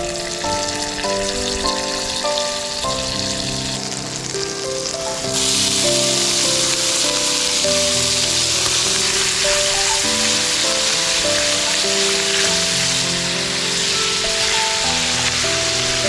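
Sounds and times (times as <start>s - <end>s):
background music: 0.0s - 16.0s
butter sizzling in skillet: 0.0s - 16.0s.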